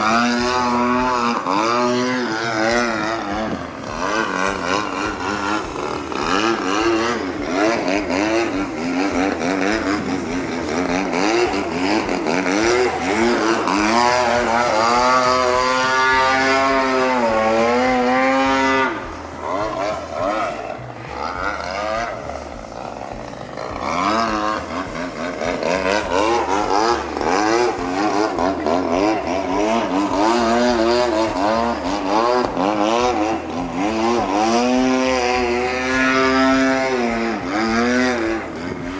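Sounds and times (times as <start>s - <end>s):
model plane engine: 0.0s - 38.9s.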